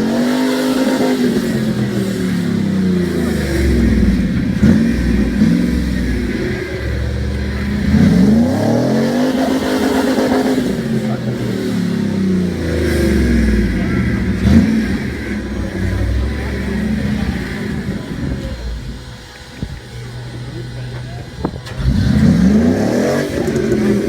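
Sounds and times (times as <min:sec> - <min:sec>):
engine revving under load: 0:00.0 - 0:24.0.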